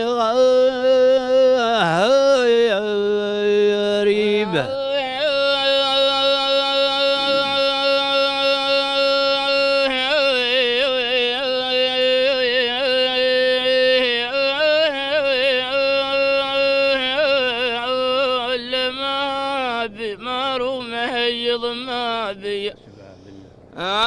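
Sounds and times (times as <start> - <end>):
person singing unaccompanied: 0.0 - 22.8.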